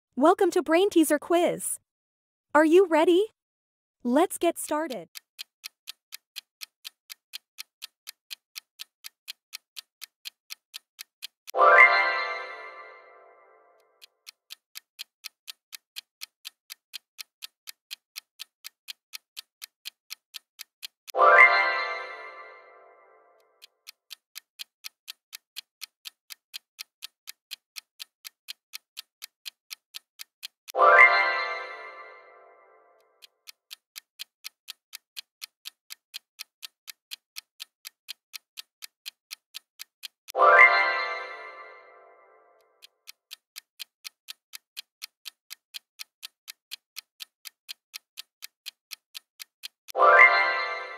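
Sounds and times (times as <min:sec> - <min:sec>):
clock ticking: 0:00.2 - 0:01.7, 0:04.1 - 0:50.9.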